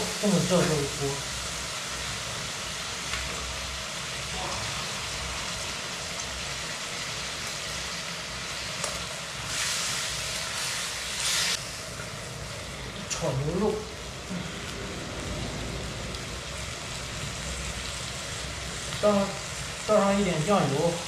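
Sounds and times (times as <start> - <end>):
beef sizzling in a wok: 0.0 - 21.0.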